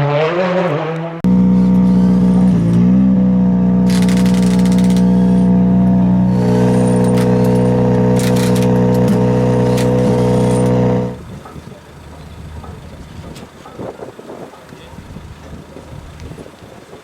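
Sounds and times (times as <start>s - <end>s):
rally car engine at steady revs: 0.0s - 14.0s
sharp exhaust pops: 1.3s - 16.4s.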